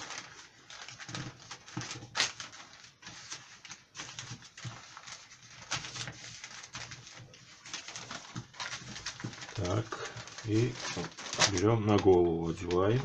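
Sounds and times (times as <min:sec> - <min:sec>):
newspaper rustling and crinkling: 0:00.0 - 0:13.0.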